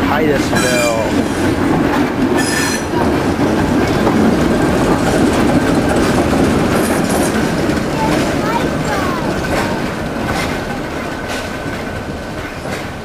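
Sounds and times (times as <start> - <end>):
diesel locomotives passing: 0.0 - 13.0.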